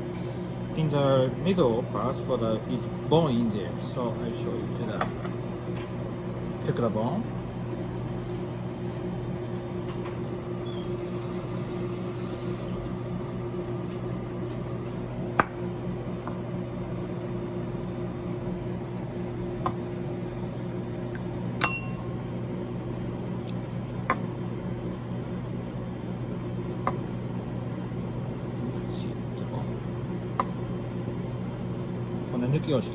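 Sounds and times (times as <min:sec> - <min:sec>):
kitchen machinery humming: 0:00.0 - 0:32.9.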